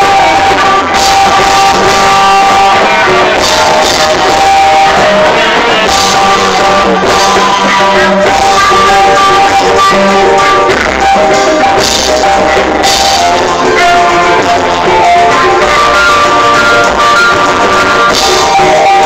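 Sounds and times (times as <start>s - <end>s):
loud live guitar music: 0.0s - 19.0s.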